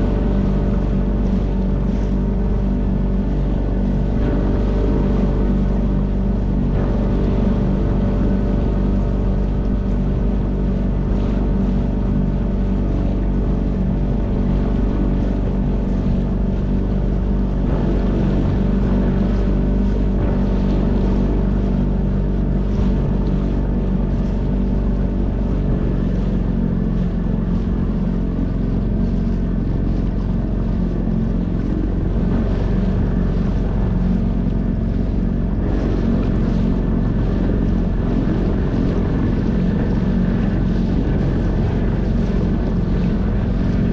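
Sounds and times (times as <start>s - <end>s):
outboard motor running: 0.0s - 43.9s
water rushing past hull: 0.0s - 43.9s.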